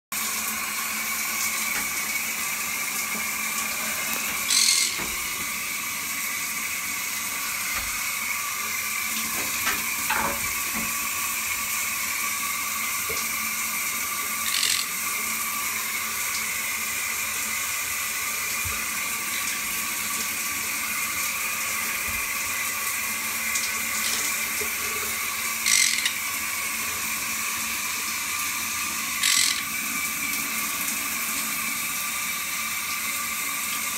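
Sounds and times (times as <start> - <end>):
shower spray running: 0.2 - 33.9.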